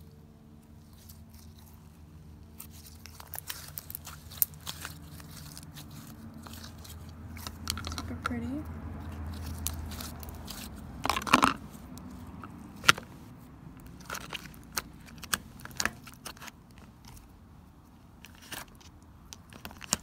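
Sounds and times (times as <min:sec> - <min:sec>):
slime squelching: 0:00.0 - 0:20.0
slime clicking and crackling: 0:00.6 - 0:08.4, 0:09.0 - 0:13.1, 0:13.8 - 0:17.3, 0:18.2 - 0:20.0.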